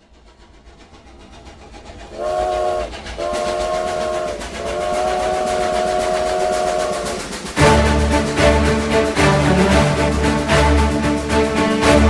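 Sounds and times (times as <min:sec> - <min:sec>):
train clattering: 0:00.0 - 0:12.0
train chord whistle blasts: 0:02.2 - 0:12.0.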